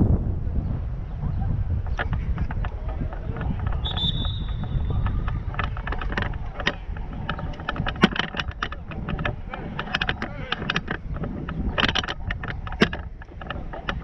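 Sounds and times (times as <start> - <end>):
wind buffeting microphone: 0.0 - 14.0
handling clicks and knocks: 1.8 - 14.0.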